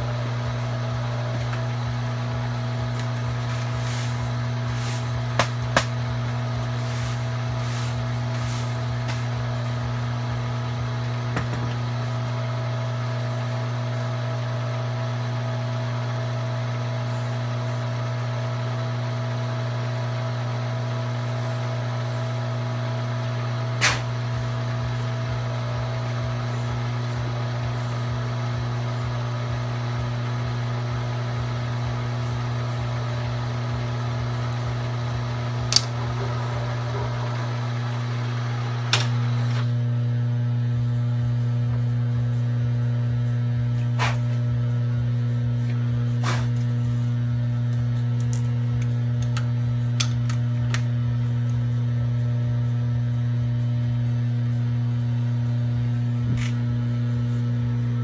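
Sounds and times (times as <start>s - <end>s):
milling machine spindle hum: 0.0s - 58.0s.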